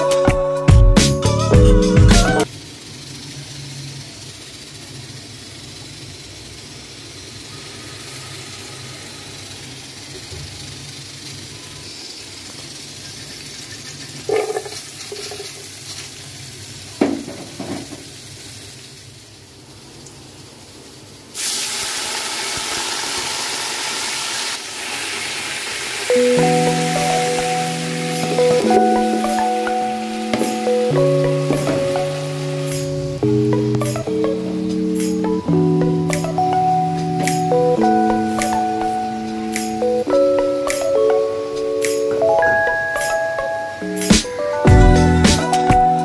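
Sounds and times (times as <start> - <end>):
oil hissing in a pot: 2.3 - 44.6
onions sizzling in oil: 2.4 - 44.6.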